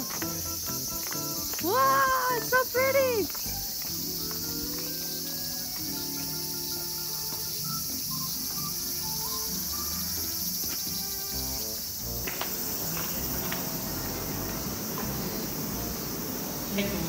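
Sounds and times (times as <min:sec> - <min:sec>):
insects chirping: 0:00.0 - 0:17.0
soft background music: 0:00.0 - 0:17.0.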